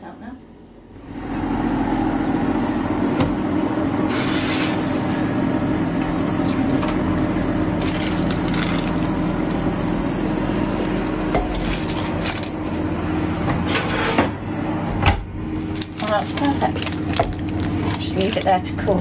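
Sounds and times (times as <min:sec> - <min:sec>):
kitchen fan whirring: 0:00.0 - 0:19.0.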